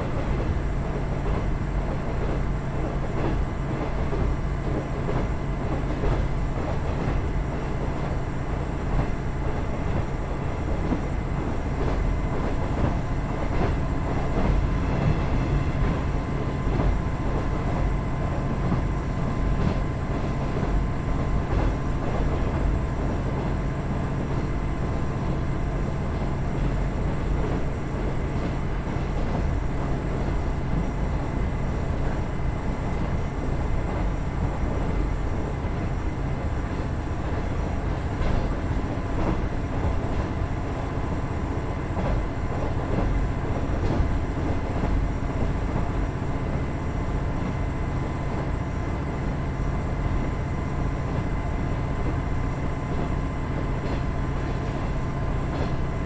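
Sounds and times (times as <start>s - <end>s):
railcar engine and wheels rumbling: 0.0s - 56.0s.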